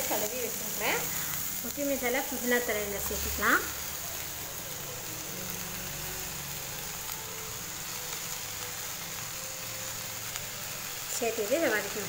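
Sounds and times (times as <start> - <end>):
electric cooktop hum: 0.0 - 12.0
faint sizzling in pan: 0.0 - 12.0.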